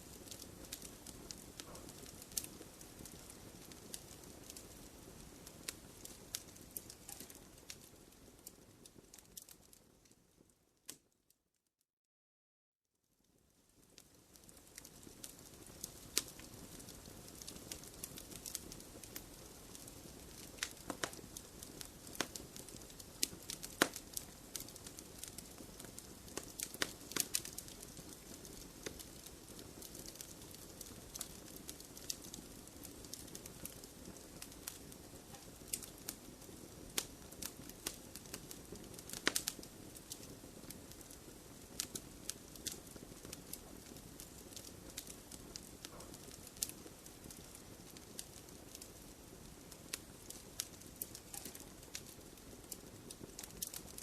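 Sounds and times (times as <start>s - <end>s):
wood fire crackling: 0.0s - 11.1s, 13.3s - 54.0s.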